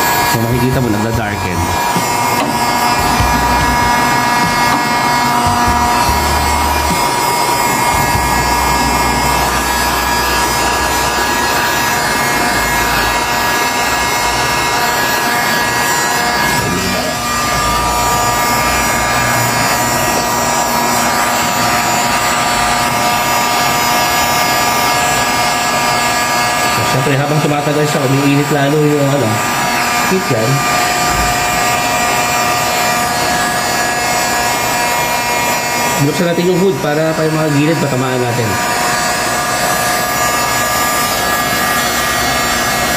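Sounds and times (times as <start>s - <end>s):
heat gun fan motor whine: 0.0s - 42.9s.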